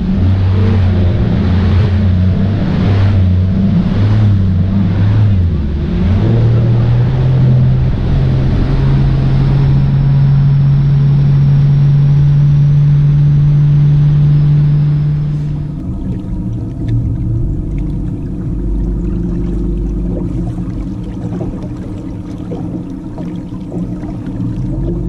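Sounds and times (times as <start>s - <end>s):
wind and water rushing: 0.0s - 12.4s, 13.7s - 25.0s
outboard motor droning: 0.0s - 25.0s.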